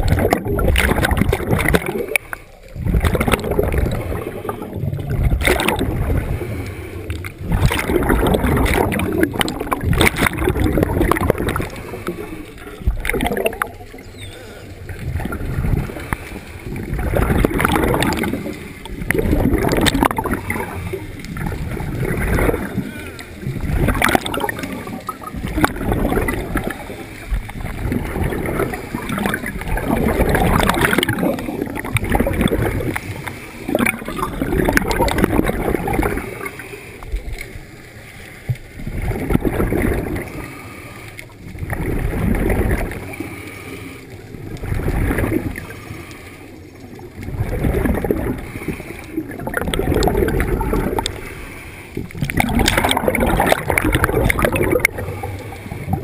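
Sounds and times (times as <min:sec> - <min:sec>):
underwater bubbles gurgling: 0:00.0 - 0:56.0.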